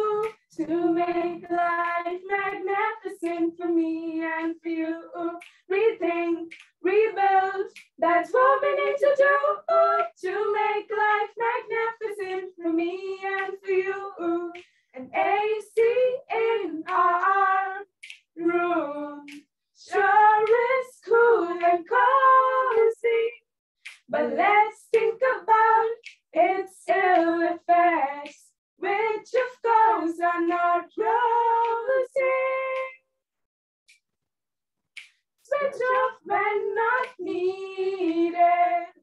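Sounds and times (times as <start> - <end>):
girls singing unaccompanied: 0.0 - 23.4, 24.1 - 33.0, 35.5 - 39.0.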